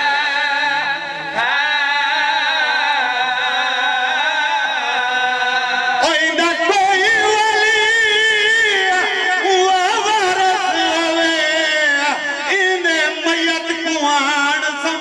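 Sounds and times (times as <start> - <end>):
man chanting a lament over loudspeaker: 0.0 - 15.0.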